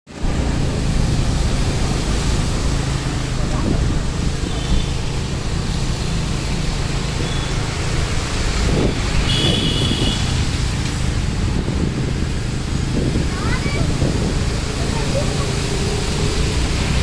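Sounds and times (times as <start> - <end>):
traffic on wet road: 0.1 - 17.0.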